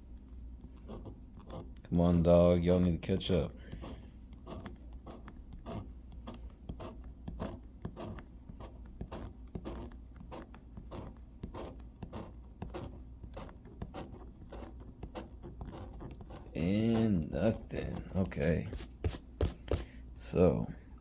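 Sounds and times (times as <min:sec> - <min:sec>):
scratching scratch-off ticket: 0:00.7 - 0:19.9.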